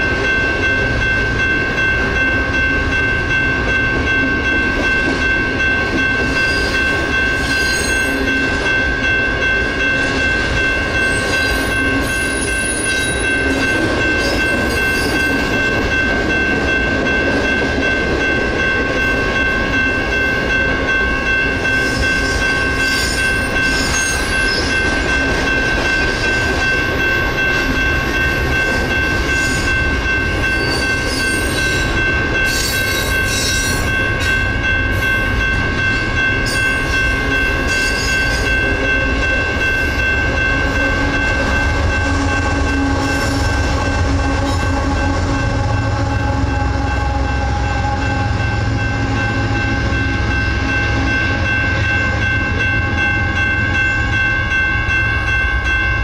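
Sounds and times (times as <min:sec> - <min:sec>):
crossing signal bells ringing: 0:00.0 - 0:56.0
freight train wheels rumbling: 0:00.0 - 0:56.0.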